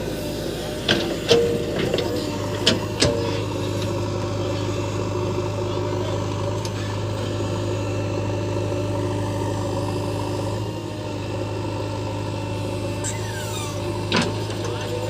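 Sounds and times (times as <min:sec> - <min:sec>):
backhoe diesel engine droning: 0:00.0 - 0:15.0.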